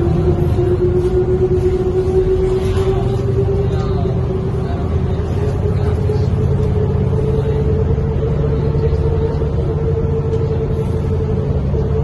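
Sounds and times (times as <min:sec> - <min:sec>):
bus engine drone: 0:00.0 - 0:12.0
steady whine: 0:00.0 - 0:12.0.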